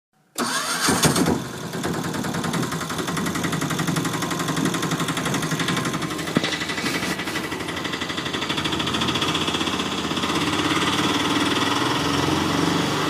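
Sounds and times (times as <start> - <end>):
engine running with fast pulse: 0.4 - 13.0.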